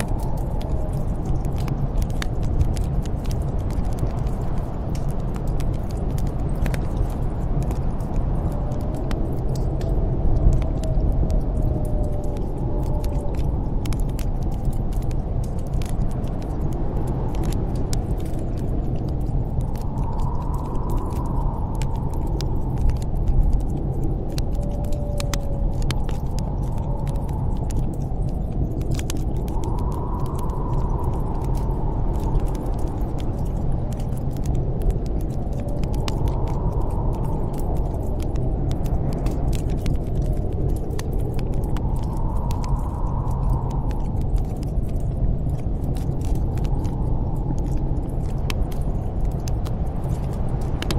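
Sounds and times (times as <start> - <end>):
howling snowstorm wind: 0.0 - 50.9
wood fire crackling: 0.0 - 50.9.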